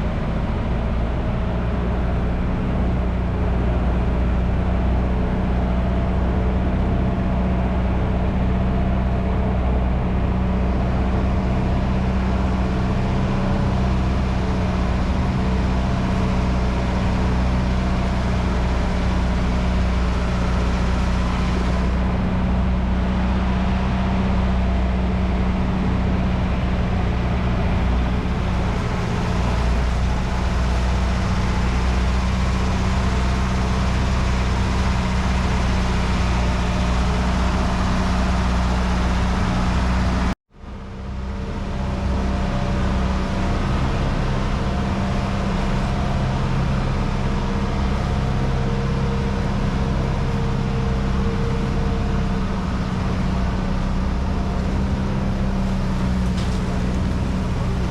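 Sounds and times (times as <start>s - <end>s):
boat engine running: 0.0s - 57.9s.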